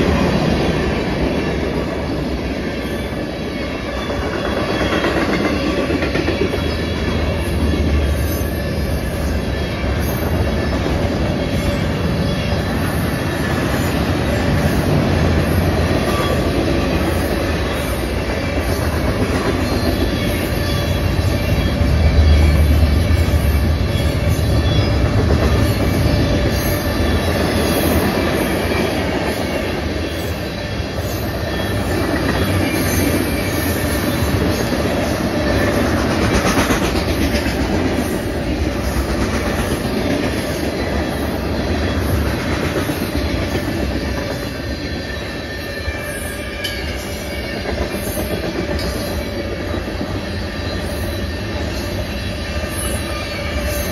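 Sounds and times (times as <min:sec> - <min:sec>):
steel wheels rumbling on rail: 0:00.0 - 0:53.9.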